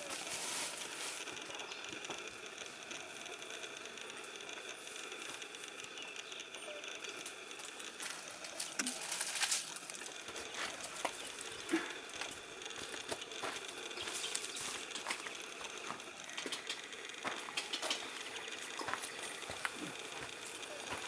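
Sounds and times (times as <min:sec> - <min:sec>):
crackling and rustling clicks: 0:00.0 - 0:21.0
steady hiss: 0:00.0 - 0:21.0.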